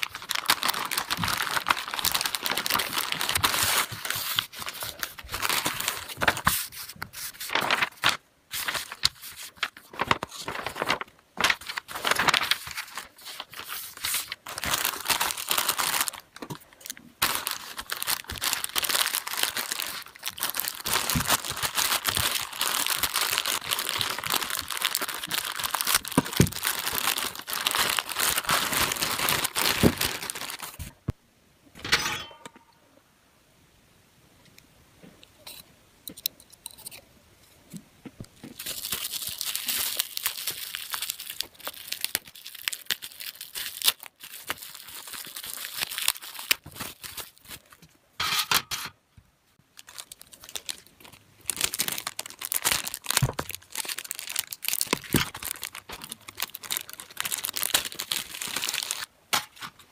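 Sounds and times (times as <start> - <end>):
plastic bags crinkling: 0.0 - 31.1, 38.4 - 47.8, 49.7 - 59.9.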